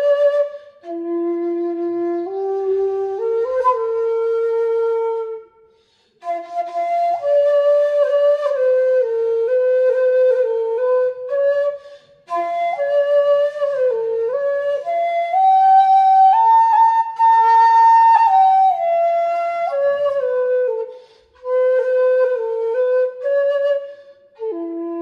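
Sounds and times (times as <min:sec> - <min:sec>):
slow solo flute melody: 0:00.0 - 0:25.0.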